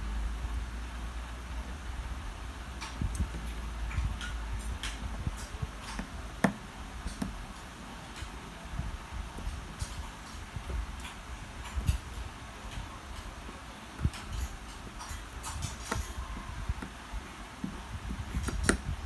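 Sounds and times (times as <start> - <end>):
low steady rumble: 0.0 - 19.0
small tools clicking and tapping: 2.8 - 8.4, 9.3 - 19.0.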